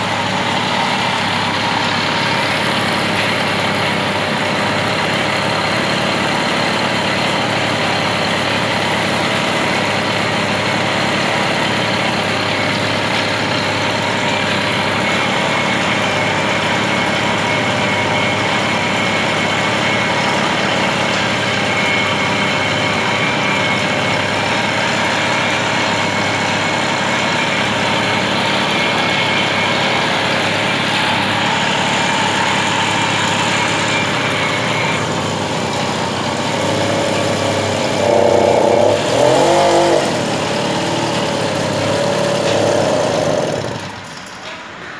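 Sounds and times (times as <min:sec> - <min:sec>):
moped engine idling: 0:00.0 - 0:44.2.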